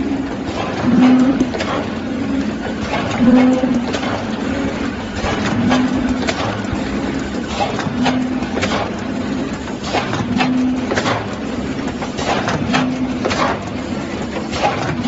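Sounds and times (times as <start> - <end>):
machine mechanical clatter: 0.0 - 15.0.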